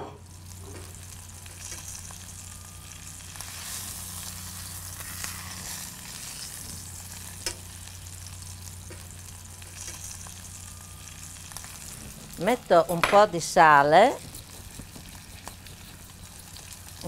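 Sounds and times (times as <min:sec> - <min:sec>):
fish sizzling in a pan: 0:00.2 - 0:17.0.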